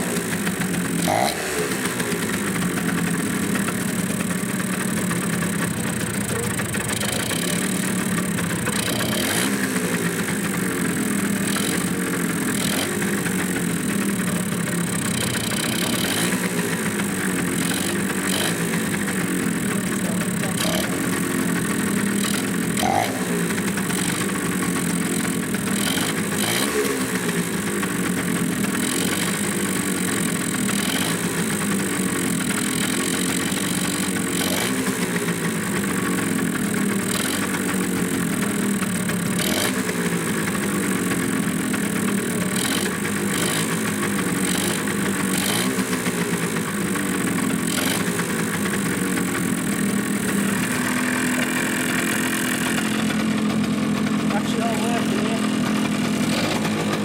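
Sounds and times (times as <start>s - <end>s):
two-stroke engine revving unevenly: 0.0s - 57.0s.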